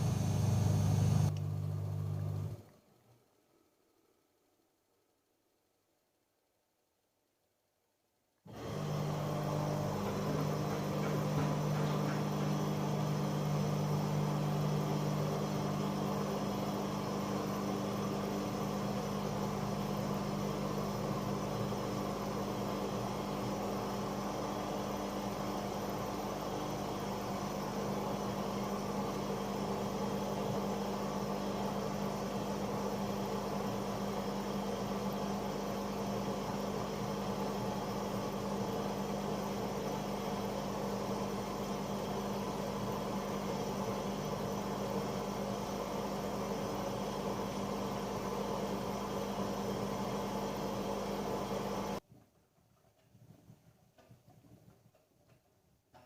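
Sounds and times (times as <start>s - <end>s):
washing machine humming: 0.0s - 3.2s, 8.5s - 52.1s.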